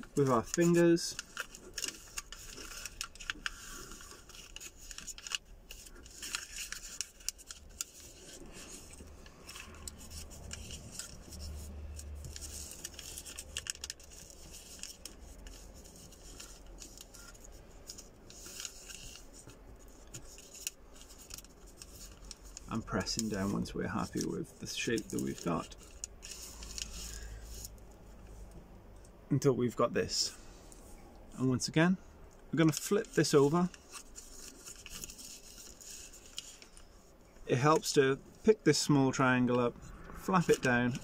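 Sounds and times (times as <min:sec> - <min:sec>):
paper crinkling and rustling: 0:00.0 - 0:27.8, 0:32.6 - 0:41.0.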